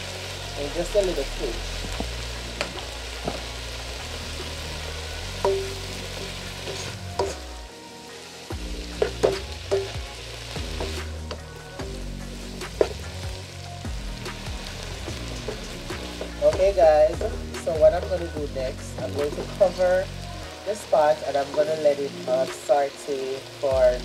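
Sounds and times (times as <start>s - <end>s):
vegetables sizzling in a pot: 0.0s - 24.0s.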